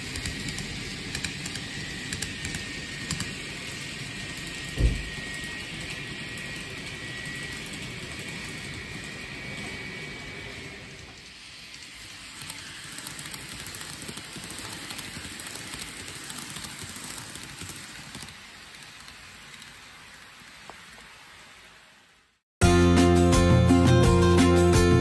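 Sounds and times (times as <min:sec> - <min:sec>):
model train wheels rattling: 0:00.0 - 0:22.2.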